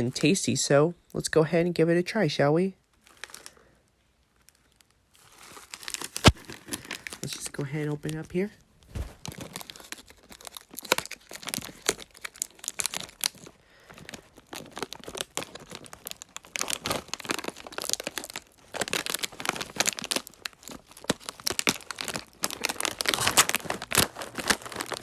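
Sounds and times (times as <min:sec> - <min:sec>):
snack bag crinkling: 0:02.8 - 0:25.0.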